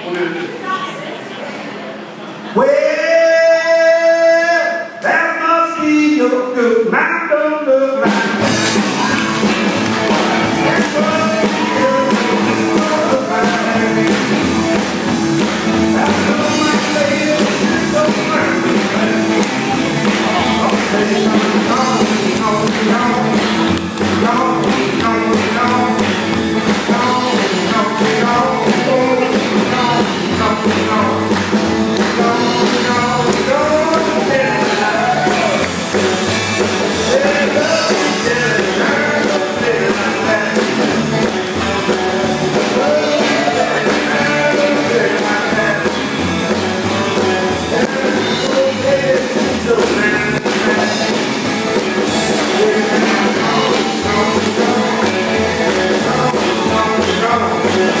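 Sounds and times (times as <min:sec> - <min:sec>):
up-tempo swing song: 0:07.0 - 0:58.0.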